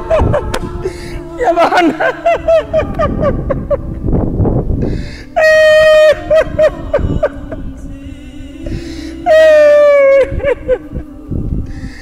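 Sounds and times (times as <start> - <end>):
person crying and sobbing: 0.0 - 4.2, 4.8 - 12.0.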